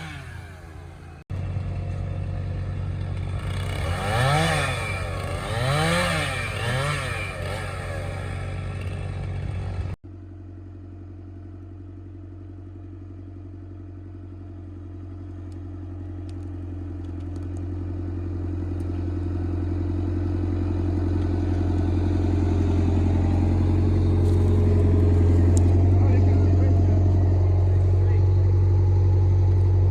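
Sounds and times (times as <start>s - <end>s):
chainsaw running: 0.0s - 10.0s, 14.6s - 29.8s
engine running steadily: 0.0s - 29.9s.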